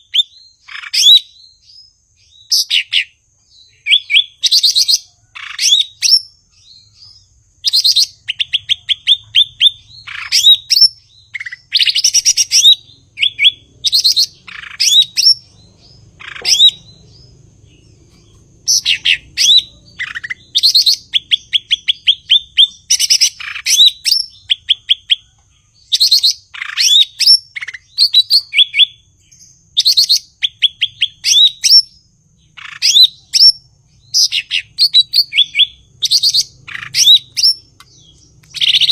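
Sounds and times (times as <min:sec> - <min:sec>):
bird chirping and whistling: 0:00.0 - 0:38.9.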